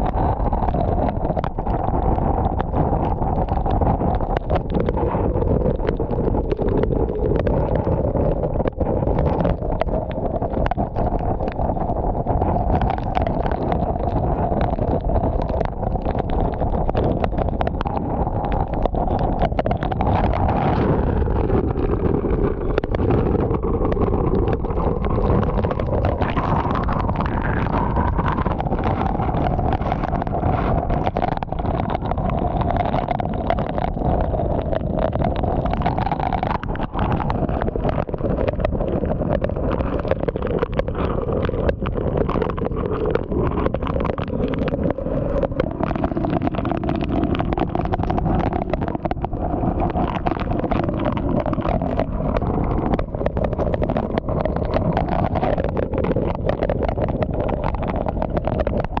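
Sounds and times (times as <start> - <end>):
hurricane wind roaring: 0.0 - 57.8.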